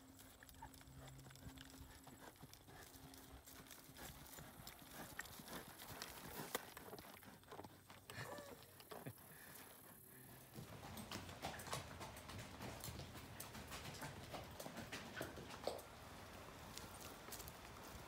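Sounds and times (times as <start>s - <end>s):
horse hooves clopping on dirt: 0.0s - 18.0s.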